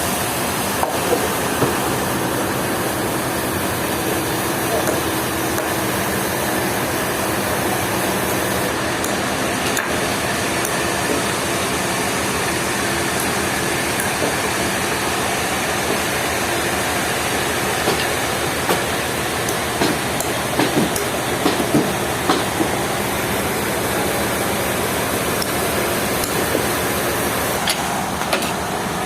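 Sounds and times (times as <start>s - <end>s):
heavy machinery running: 0.0s - 29.0s.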